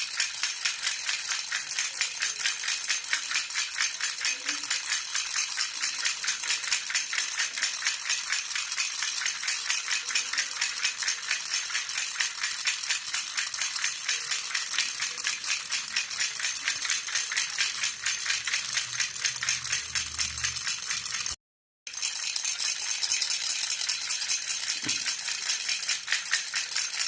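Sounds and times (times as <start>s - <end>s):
baby rattle jingling: 0.0s - 27.0s.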